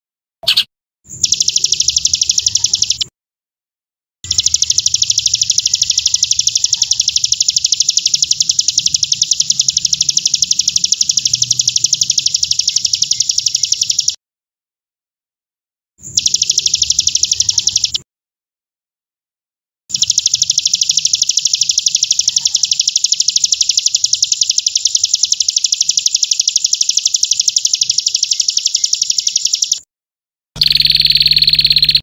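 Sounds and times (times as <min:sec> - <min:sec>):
songbird fast trill: 0:00.4 - 0:03.1, 0:04.3 - 0:14.2, 0:16.1 - 0:18.0, 0:19.9 - 0:29.8, 0:30.6 - 0:32.0.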